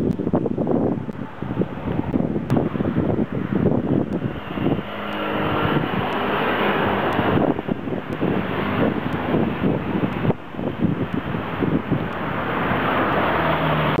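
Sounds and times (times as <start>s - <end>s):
wind buffeting microphone: 0.0s - 14.0s
vehicle passing: 1.2s - 14.0s.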